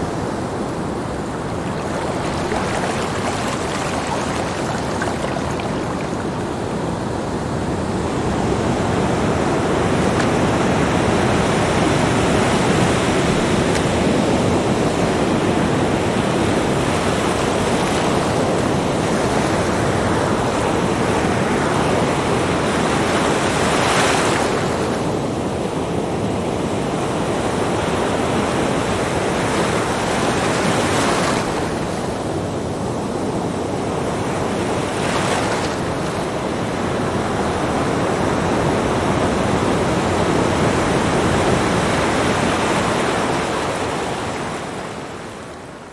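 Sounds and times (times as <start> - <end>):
waves breaking on beach: 0.0 - 45.9.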